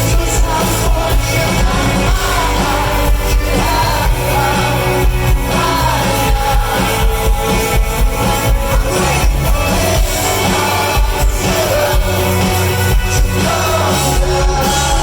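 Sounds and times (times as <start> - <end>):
lead vocal singing: 0.0 - 15.0
live rock band playing: 0.0 - 15.0.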